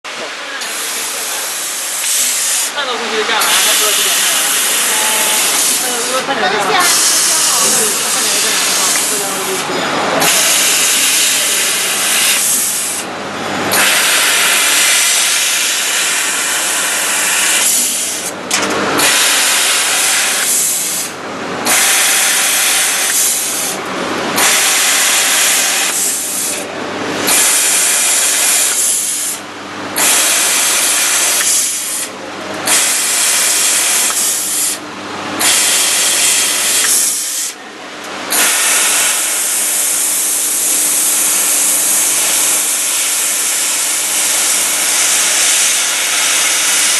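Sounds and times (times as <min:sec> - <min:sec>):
laser cutter gas jet hissing: 0:00.6 - 0:18.4, 0:19.0 - 0:37.6, 0:38.3 - 0:46.9.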